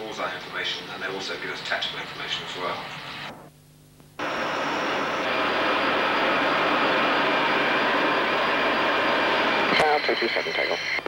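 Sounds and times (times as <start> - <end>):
jet engines running with whine: 0.0 - 3.5, 4.2 - 11.0.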